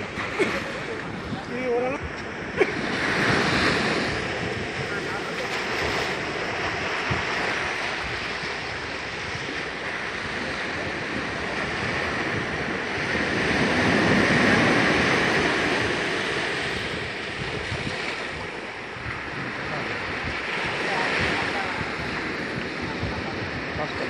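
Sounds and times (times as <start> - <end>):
sea surf breaking on sand: 0.0 - 24.0.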